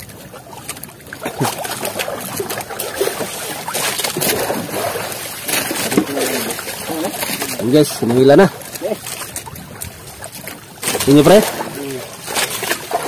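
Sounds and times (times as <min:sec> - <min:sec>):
sea water splashing against hull: 0:00.0 - 0:13.0.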